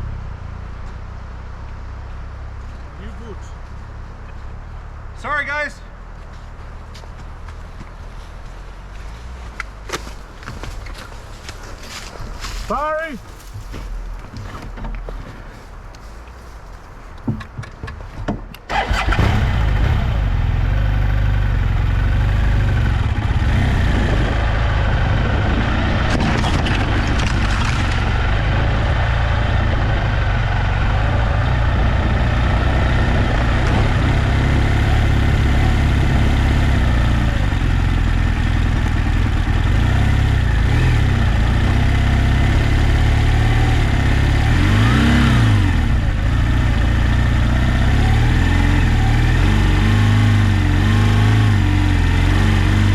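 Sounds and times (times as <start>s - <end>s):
motorcycle engine rumbling: 0.0s - 52.9s.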